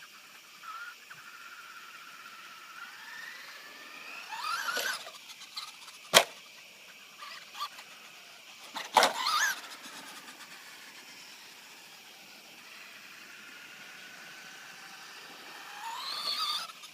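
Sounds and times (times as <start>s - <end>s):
rc truck electric motor whining: 0.0s - 16.9s.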